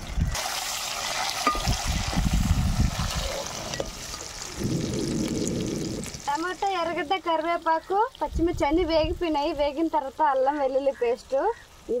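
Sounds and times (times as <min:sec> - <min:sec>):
vegetables sizzling in hot oil: 0:00.0 - 0:10.9.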